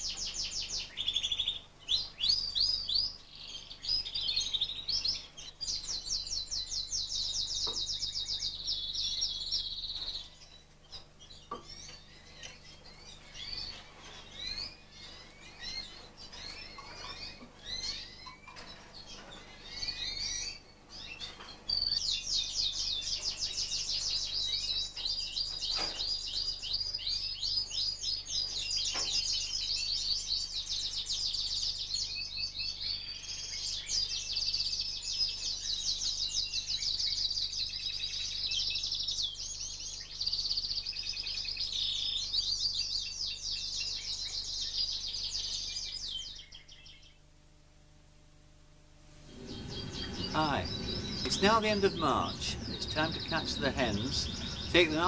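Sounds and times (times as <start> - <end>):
canaries trilling: 0.0 - 47.2, 49.2 - 55.0
bird chirps: 0.0 - 47.3, 49.2 - 55.0.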